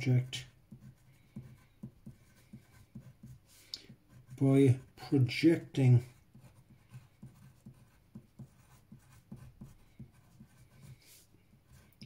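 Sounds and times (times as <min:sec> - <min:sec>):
pencil writing on paper: 0:00.0 - 0:04.8, 0:06.1 - 0:12.0.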